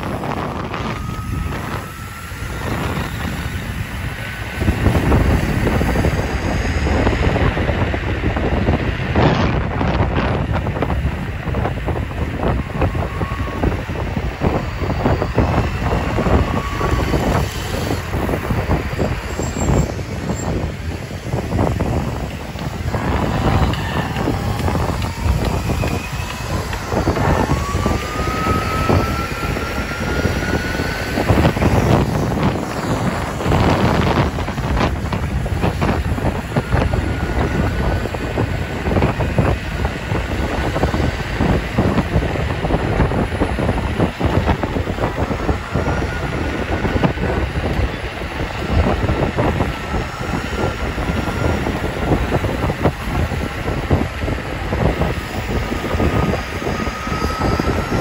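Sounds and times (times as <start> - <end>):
electric motor whine: 0.0 - 58.0
tyre noise on asphalt: 0.0 - 58.0
wind buffeting microphone: 0.0 - 58.0.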